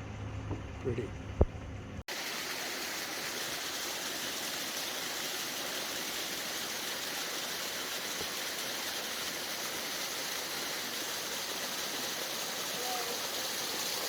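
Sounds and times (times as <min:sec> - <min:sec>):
water rushing: 0:02.1 - 0:14.0.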